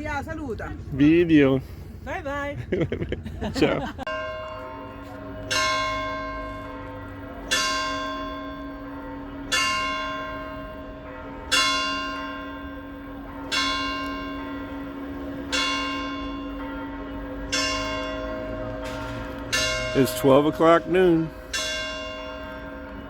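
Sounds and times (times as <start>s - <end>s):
church bell tolling: 4.0s - 23.0s.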